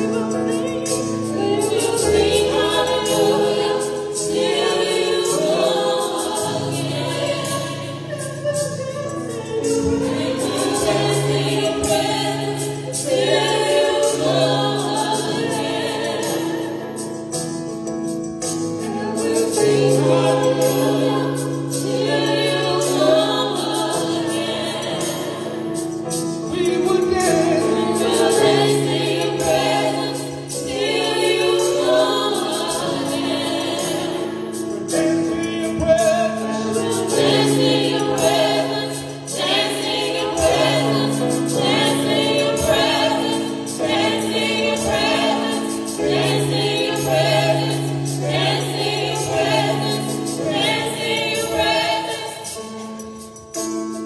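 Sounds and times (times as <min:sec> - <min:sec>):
women singing gospel song: 0:00.0 - 0:17.3, 0:18.8 - 0:53.3.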